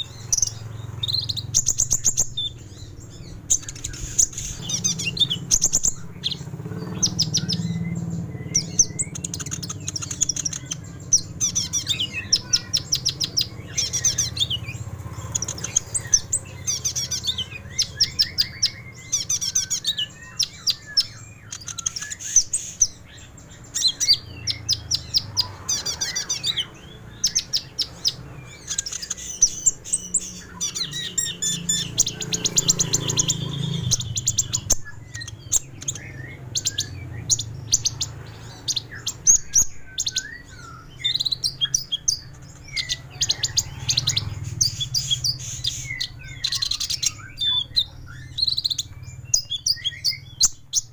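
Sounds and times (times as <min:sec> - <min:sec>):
sunbird trilling song: 0:00.0 - 0:50.9.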